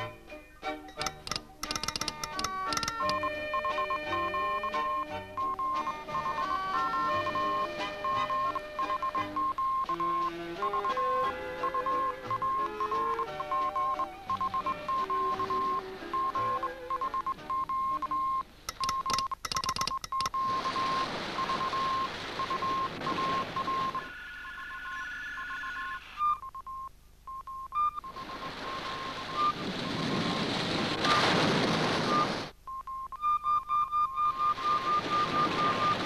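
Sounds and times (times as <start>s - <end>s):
morse code beeping: 1.0s - 24.1s, 24.7s - 29.6s, 32.1s - 36.0s.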